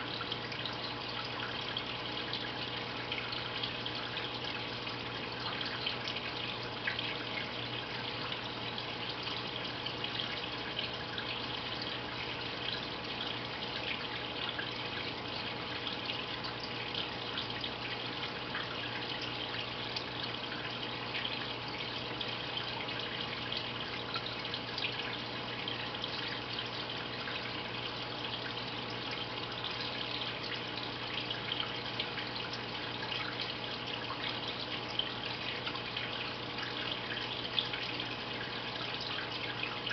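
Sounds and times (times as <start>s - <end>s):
fine water drips: 0.0s - 39.9s
water trickling and splashing: 0.0s - 39.9s.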